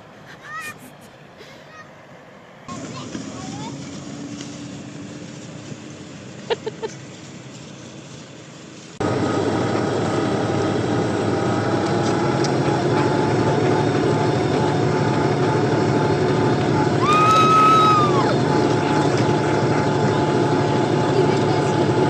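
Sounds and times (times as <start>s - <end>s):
tractor engine running: 2.7s - 22.0s.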